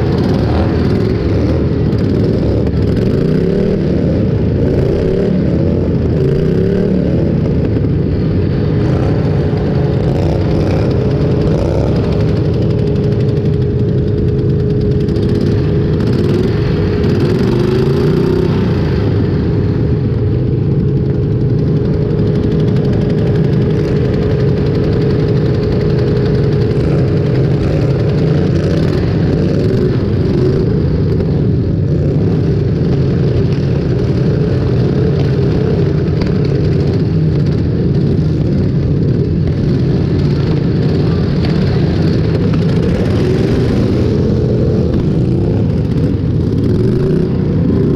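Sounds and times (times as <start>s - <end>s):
engine revving: 0.0s - 47.9s
lawn tractor engines running: 0.0s - 47.9s
steady engine note: 0.0s - 47.9s.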